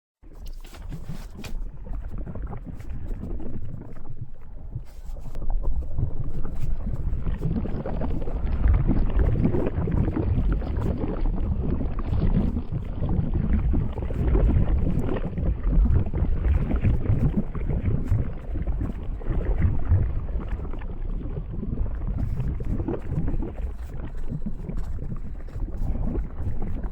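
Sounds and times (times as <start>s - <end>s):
faint crackles: 0.2s - 26.9s
lava flow rumbling: 0.2s - 26.9s
wind buffeting microphone: 0.6s - 26.9s.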